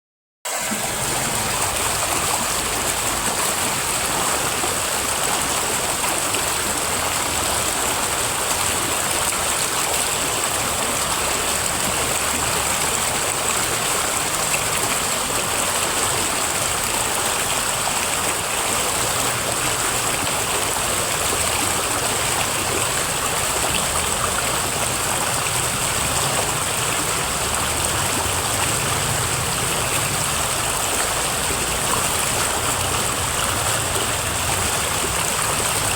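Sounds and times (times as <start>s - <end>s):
running water rushing: 0.5s - 35.9s.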